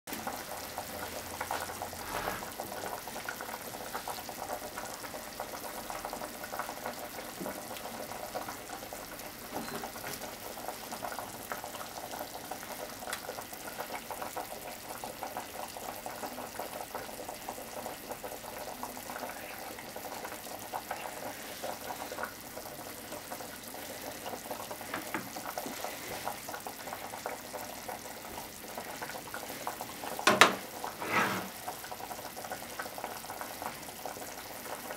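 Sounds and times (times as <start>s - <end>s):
pot boiling and bubbling: 0.1s - 34.9s.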